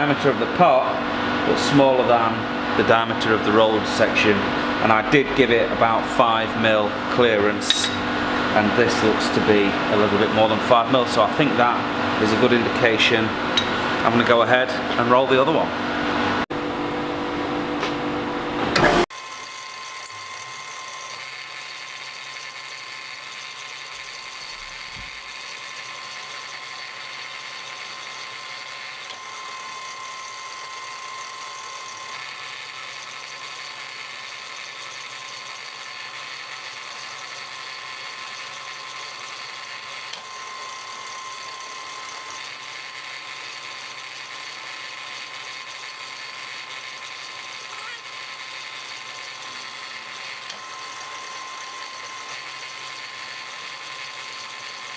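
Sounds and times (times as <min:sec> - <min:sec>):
electric motor whine: 0:00.0 - 0:54.9.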